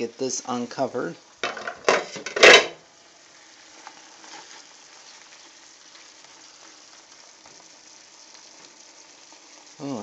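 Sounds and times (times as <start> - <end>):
ground beef sizzling in a skillet: 0.0 - 10.0.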